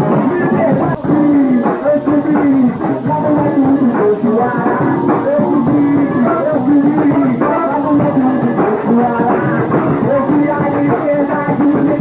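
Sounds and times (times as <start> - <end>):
busy percussion: 0.0 - 12.0
rock band music: 0.0 - 12.0
pitched melody lines: 0.4 - 11.2.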